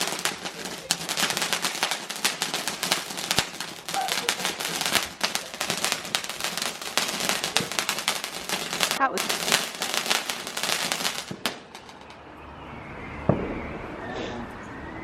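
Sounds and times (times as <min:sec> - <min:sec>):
fireworks crackling and banging: 0:00.0 - 0:12.4, 0:13.1 - 0:13.8.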